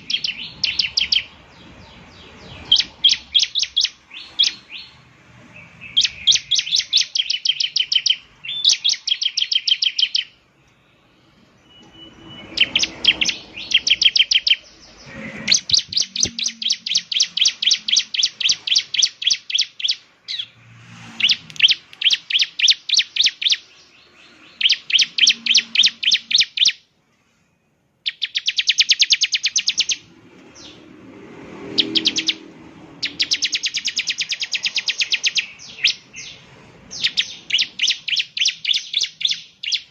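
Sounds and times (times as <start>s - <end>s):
bird singing rapid high chips: 0.0s - 26.9s, 28.0s - 31.0s, 31.6s - 39.9s.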